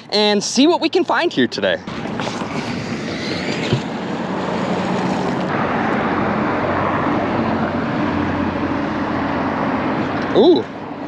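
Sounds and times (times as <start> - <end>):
passing road traffic: 0.0 - 11.0
wind: 0.0 - 11.0.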